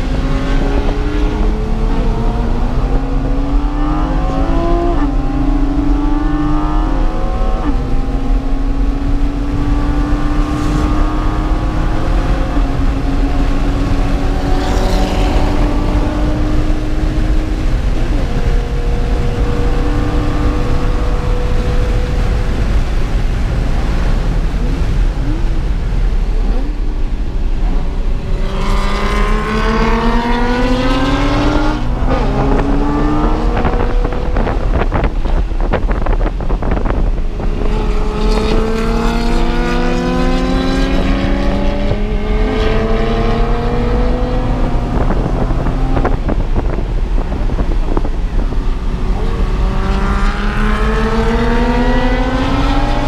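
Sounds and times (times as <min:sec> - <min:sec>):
car engine accelerating: 0:00.0 - 0:53.0
road and wind noise: 0:00.0 - 0:53.0.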